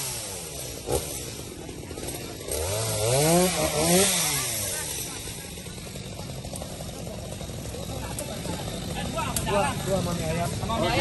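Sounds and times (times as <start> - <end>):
chainsaw idling and revving: 0.0 - 11.0.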